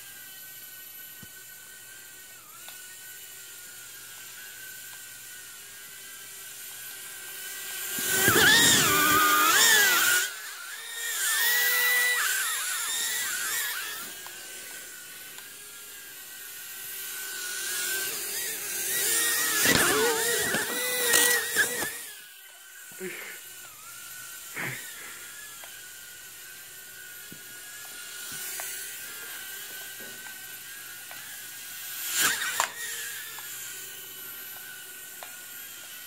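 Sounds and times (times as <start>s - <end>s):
toy drone propellers whining: 0.0s - 36.0s.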